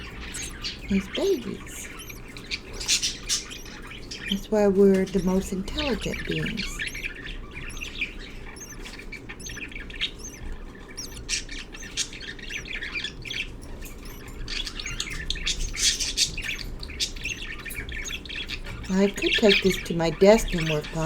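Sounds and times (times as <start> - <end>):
budgerigars chirping and squawking: 0.0 - 21.0.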